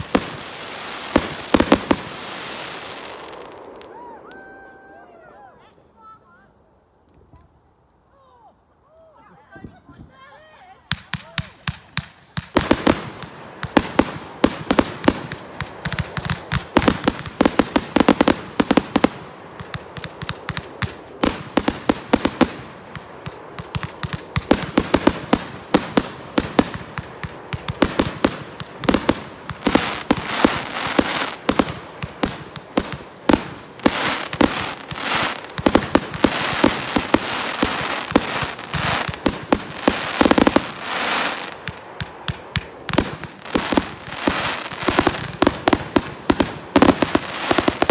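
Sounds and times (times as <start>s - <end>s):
fireworks bangs and crackling: 0.0s - 4.9s, 10.8s - 47.9s.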